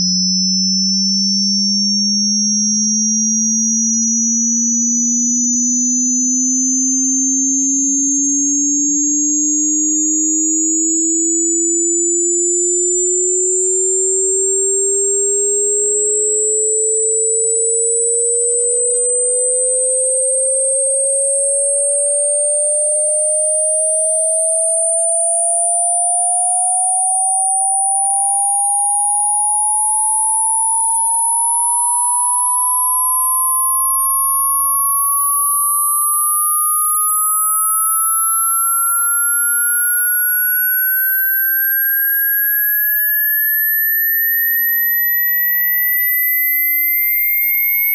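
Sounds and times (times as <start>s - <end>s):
sine tone sweeping upward: 0.0s - 47.9s.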